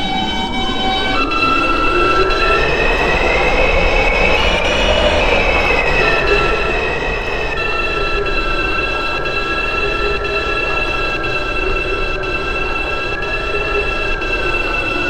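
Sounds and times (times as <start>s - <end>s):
train propulsion whine: 0.0s - 15.0s.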